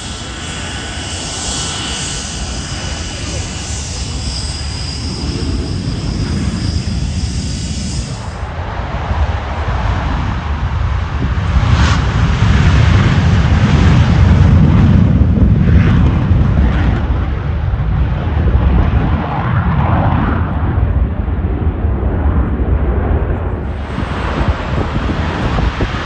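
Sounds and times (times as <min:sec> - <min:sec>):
aircraft flying past: 0:00.0 - 0:26.0.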